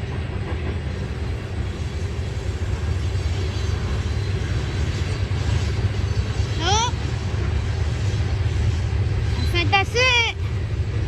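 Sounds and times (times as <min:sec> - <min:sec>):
freight train cars rumbling past: 0:00.0 - 0:11.0.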